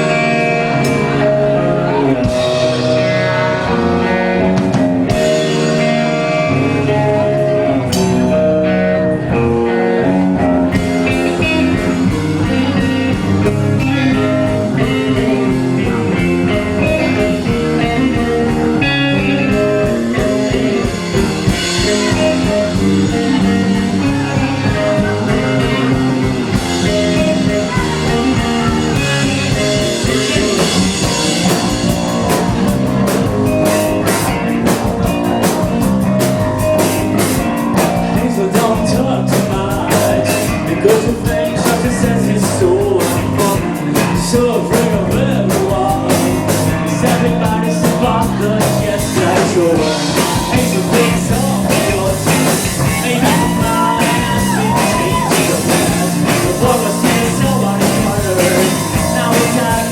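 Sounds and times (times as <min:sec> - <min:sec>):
bass guitar: 0:00.0 - 0:59.9
drum kit: 0:00.0 - 0:59.9
electric guitar: 0:00.0 - 0:59.9
person singing: 0:00.0 - 0:59.9.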